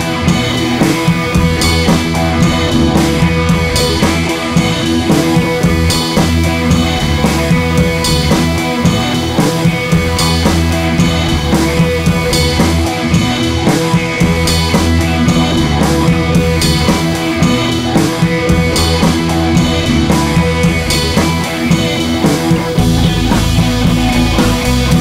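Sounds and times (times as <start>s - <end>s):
rock instrumental music: 0.0s - 25.0s.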